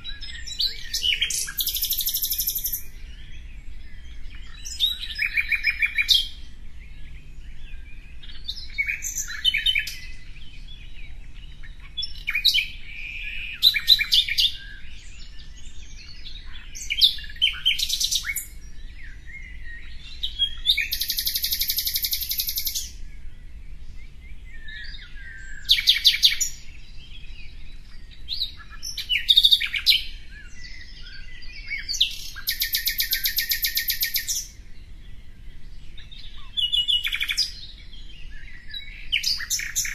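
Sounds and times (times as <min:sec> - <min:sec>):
dense bird trills: 0:00.0 - 0:39.9
songbirds chirping: 0:00.0 - 0:39.9.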